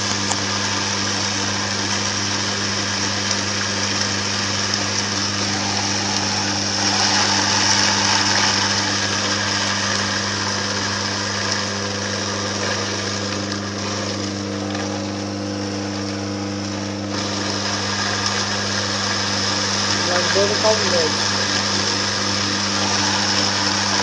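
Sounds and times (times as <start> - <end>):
juicer humming and grinding: 0.0 - 24.0.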